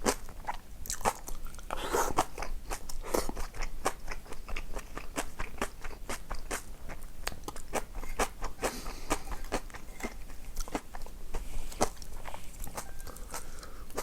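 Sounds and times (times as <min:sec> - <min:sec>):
chewing crisp food: 0:00.0 - 0:14.0.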